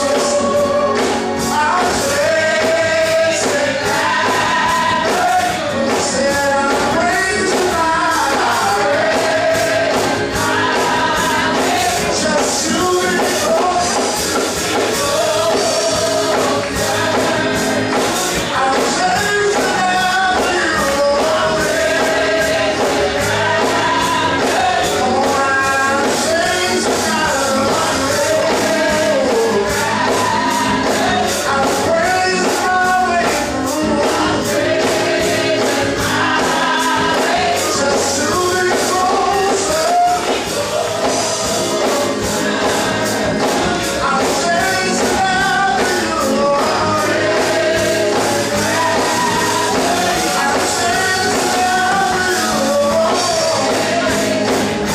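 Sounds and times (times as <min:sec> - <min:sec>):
gospel choir singing with band: 0:00.0 - 0:54.9
percussion beat: 0:00.0 - 0:54.9.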